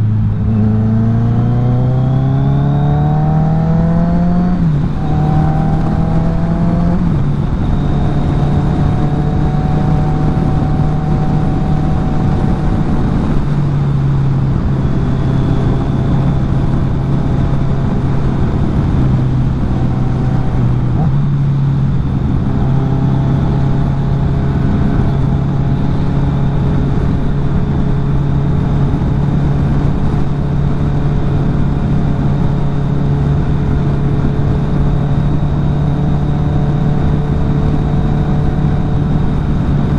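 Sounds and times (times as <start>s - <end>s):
motorcycle engine cruising: 0.0s - 39.9s
wind noise rushing: 0.0s - 39.9s.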